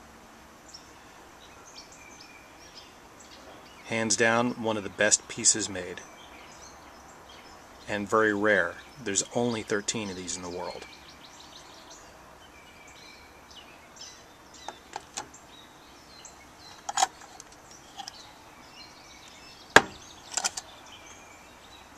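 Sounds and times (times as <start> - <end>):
faint birds chirping: 0.0 - 21.9.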